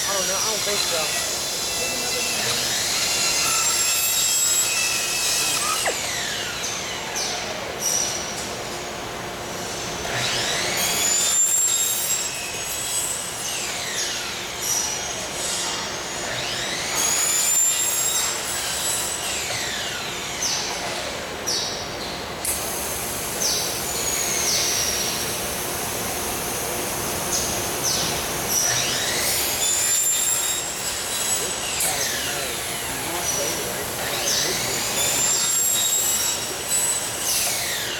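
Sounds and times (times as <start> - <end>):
shop machinery squealing whines: 0.0 - 37.9
steady machinery hum: 0.0 - 37.9.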